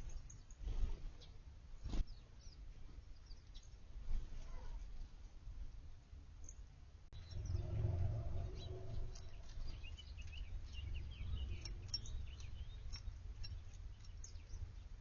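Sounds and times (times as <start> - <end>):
songbirds chirping: 0.0 - 15.0
steady low rumble: 0.0 - 15.0.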